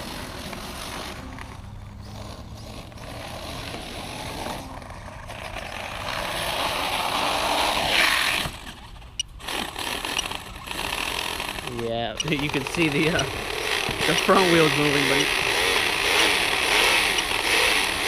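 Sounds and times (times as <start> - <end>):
rc truck motor running roughly: 0.0 - 18.0.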